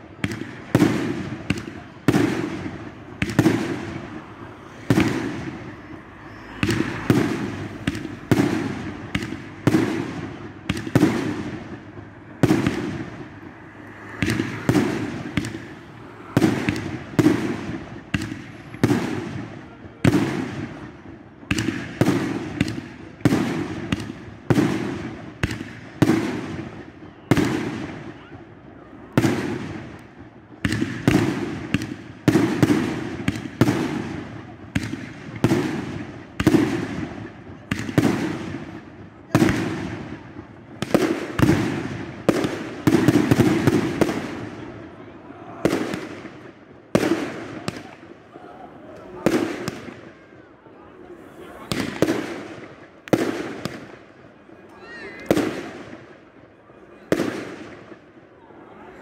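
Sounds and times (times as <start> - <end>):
fireworks bangs with crackling echo: 0.0 - 48.3, 49.0 - 50.3, 51.1 - 54.4, 55.2 - 58.3.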